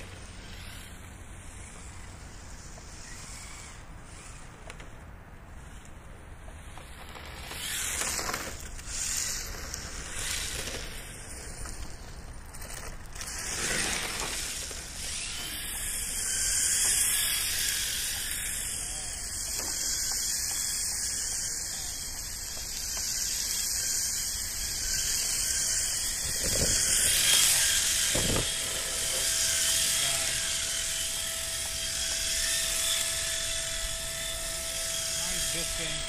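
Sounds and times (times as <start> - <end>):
electric rc car motor whine: 0.0 - 36.0.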